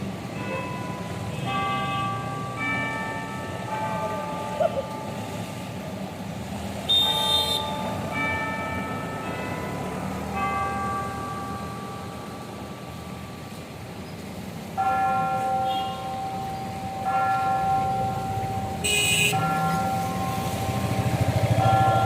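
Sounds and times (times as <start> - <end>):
clock tower bell striking: 0.0 - 6.2, 7.0 - 13.9, 14.7 - 22.0
low traffic rumble: 0.0 - 22.0.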